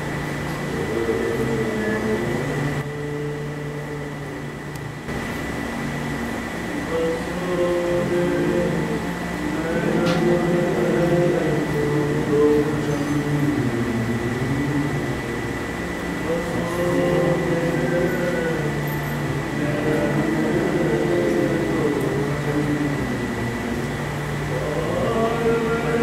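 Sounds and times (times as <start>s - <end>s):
voices singing a devotional hymn: 0.0s - 4.6s, 6.6s - 26.0s
steady low hum: 0.0s - 26.0s.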